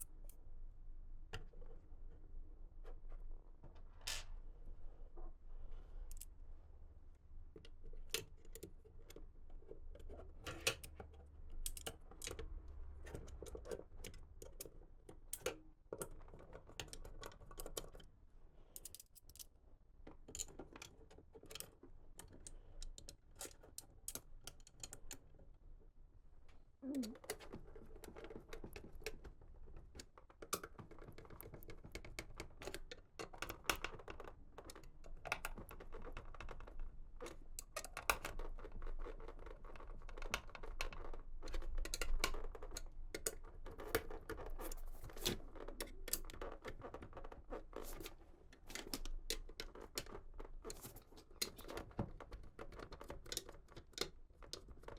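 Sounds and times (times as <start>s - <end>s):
small clicks and taps of parts: 6.1s - 6.4s, 7.5s - 18.1s, 18.7s - 25.5s, 26.4s - 54.9s.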